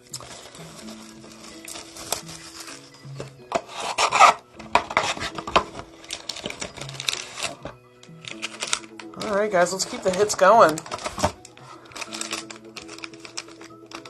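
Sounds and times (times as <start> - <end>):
cardboard and plastic crinkling: 0.0 - 14.0.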